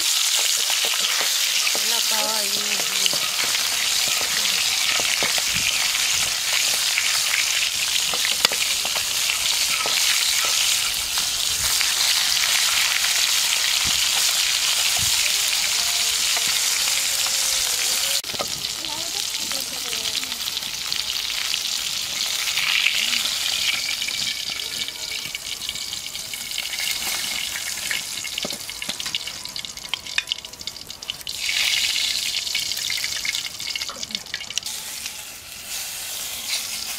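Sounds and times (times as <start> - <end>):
fish sizzling in hot oil: 0.0 - 36.9.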